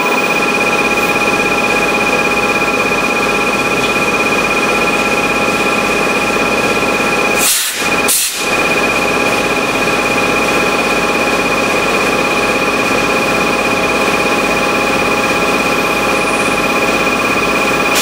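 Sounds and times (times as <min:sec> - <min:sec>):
high whine: 0:00.0 - 0:18.0
lathe machine hum: 0:00.0 - 0:18.0.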